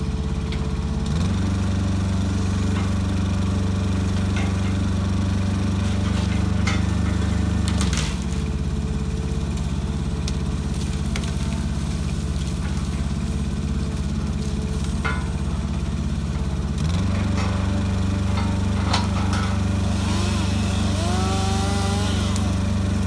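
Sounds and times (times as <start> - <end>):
truck engine running under load: 0.0 - 23.0.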